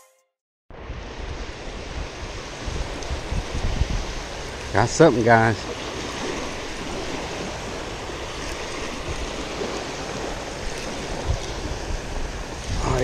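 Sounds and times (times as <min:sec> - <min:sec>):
small waves washing on beach: 0:00.7 - 0:13.0.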